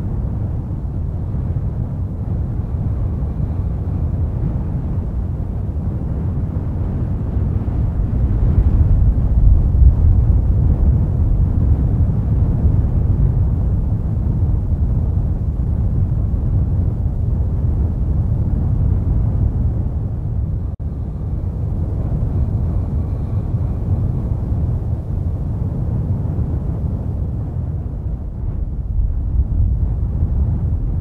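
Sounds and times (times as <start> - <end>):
deep rumbling noise: 0.0 - 31.0.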